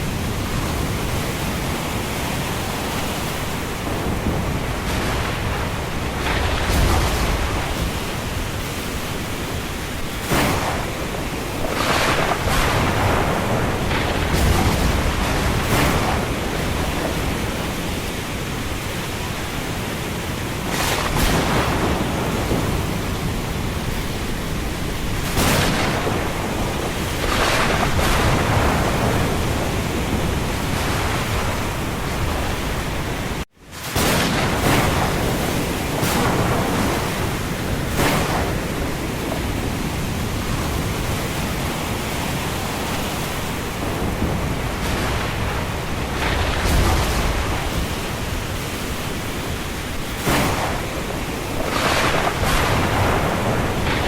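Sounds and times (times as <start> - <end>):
rain: 0.0 - 54.0.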